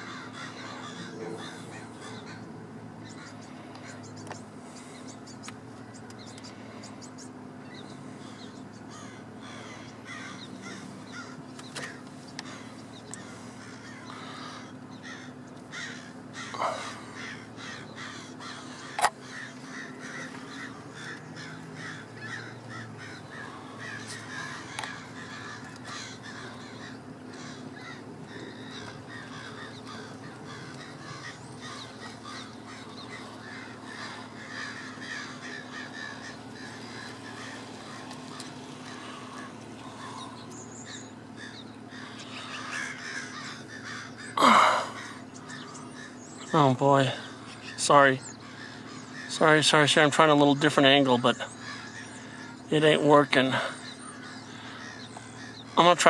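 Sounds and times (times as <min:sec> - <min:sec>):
blackbirds chattering and calling: 0:00.0 - 0:56.0.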